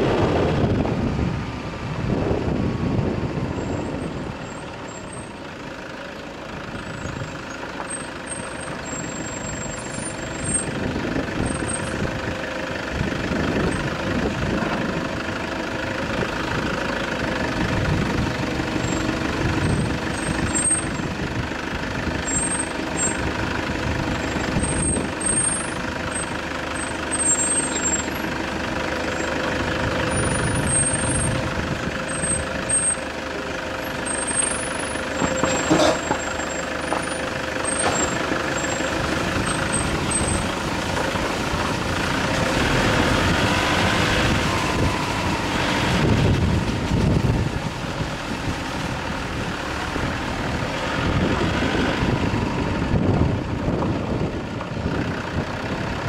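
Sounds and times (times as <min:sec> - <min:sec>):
tyre and road rumble: 0:00.0 - 0:56.0
vehicle engine running: 0:00.0 - 0:56.0.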